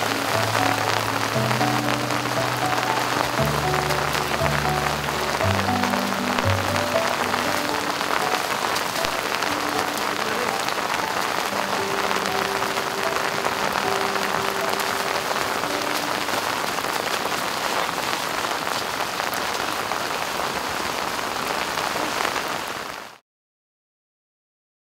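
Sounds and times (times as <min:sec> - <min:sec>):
heavy rain on muddy ground: 0:00.0 - 0:23.2.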